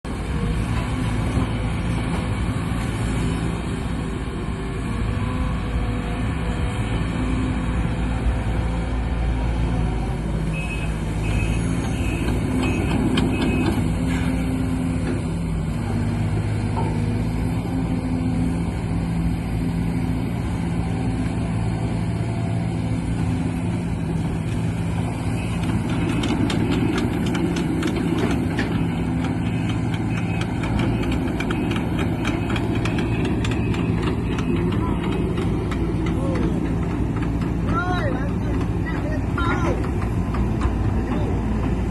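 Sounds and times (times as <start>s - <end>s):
diesel excavator engine running: 0.1s - 41.9s.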